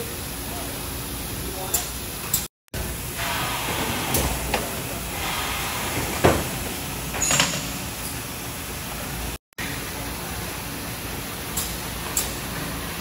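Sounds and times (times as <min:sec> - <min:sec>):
factory floor hiss: 0:00.0 - 0:13.0.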